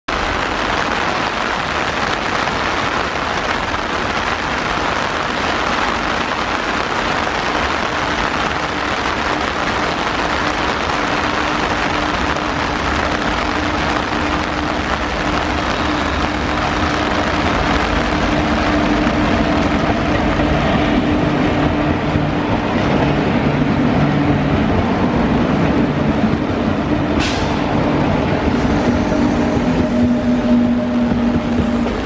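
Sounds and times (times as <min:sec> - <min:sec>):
heavy rain hissing: 0:00.1 - 0:32.0
electric locomotive hum: 0:00.2 - 0:32.0.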